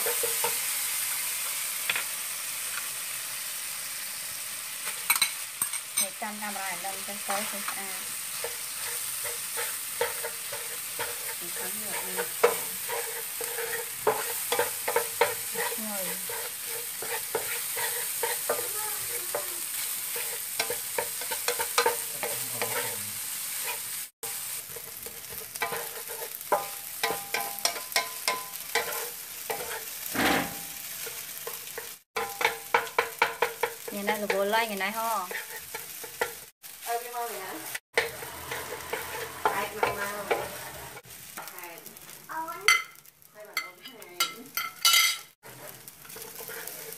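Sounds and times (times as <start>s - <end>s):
rice sizzling in a frying pan: 0.0s - 46.9s
spatula scraping and tapping pan: 1.4s - 2.9s, 7.2s - 23.0s, 23.6s - 36.5s, 37.9s - 41.6s, 42.6s - 46.9s.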